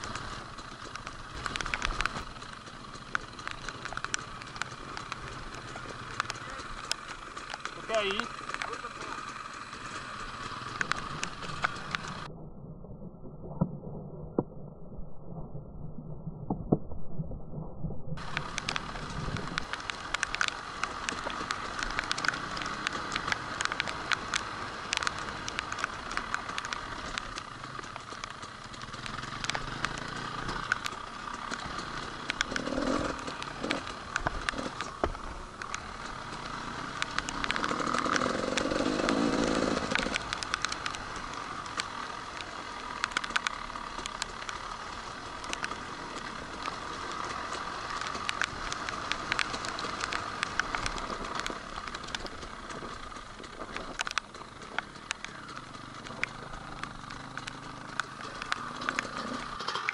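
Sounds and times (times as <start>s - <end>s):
motorcycle engine running: 0.0s - 12.3s, 18.2s - 59.9s
sharp clicks and knocks: 0.0s - 12.3s, 18.2s - 59.9s.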